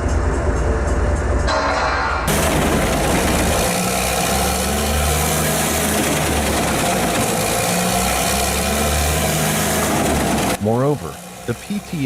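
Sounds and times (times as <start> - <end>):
wood chipper running: 2.3 - 12.0.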